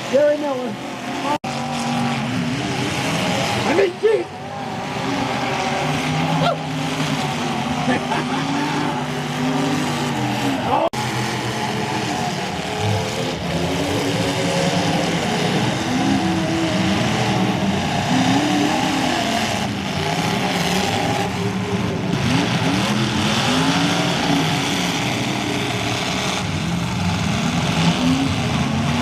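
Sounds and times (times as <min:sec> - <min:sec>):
car engines revving: 0:00.0 - 0:29.0
cars crashing: 0:00.0 - 0:29.0.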